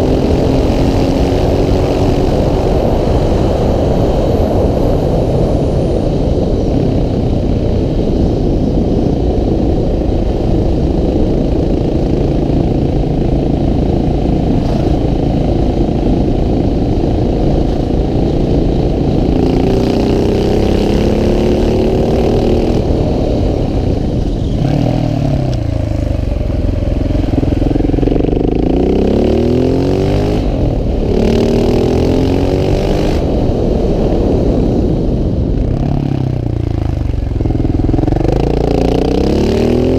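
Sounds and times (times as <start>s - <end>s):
motorcycle engine running hard: 0.0s - 39.9s
wind rumble: 0.0s - 39.9s.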